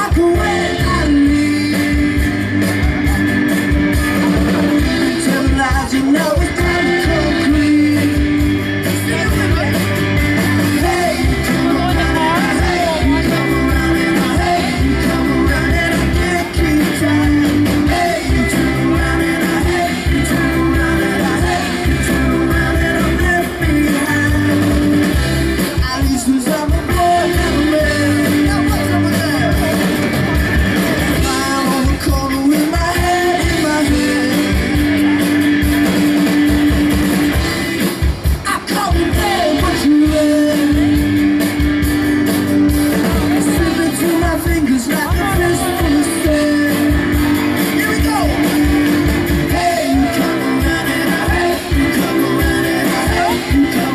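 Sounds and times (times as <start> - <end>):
man singing: 0.0 - 3.4, 4.1 - 30.5, 31.1 - 35.9, 38.4 - 41.2, 43.0 - 53.9
bass guitar: 0.0 - 53.9
drum kit: 0.0 - 53.9.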